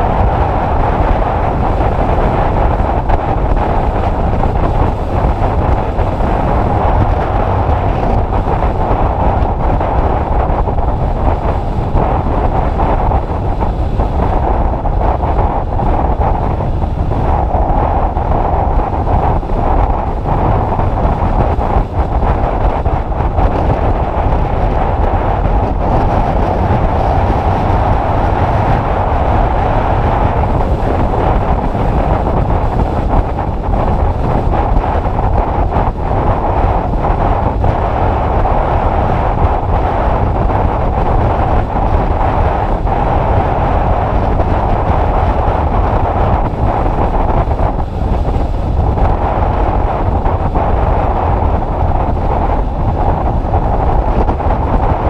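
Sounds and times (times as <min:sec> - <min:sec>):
motorcycle running: 0:00.0 - 0:52.0
wind noise on microphone: 0:00.0 - 0:55.0.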